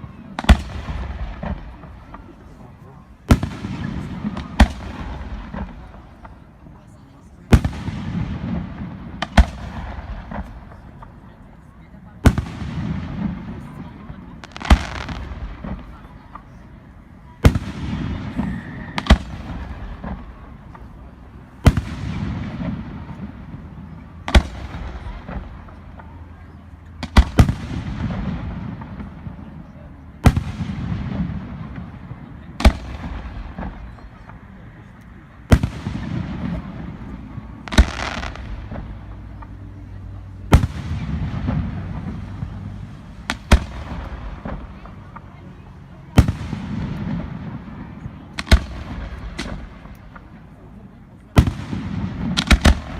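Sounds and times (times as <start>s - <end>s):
fireworks bangs: 0.0s - 52.9s
rolling rumble of echo: 0.0s - 52.9s.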